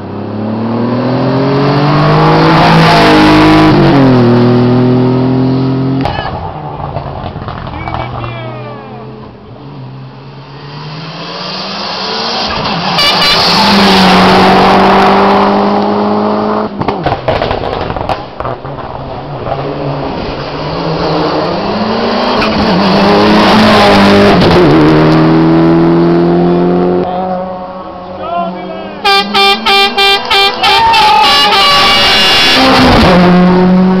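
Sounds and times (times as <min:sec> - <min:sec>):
race car engine at full throttle: 0:00.0 - 0:34.0.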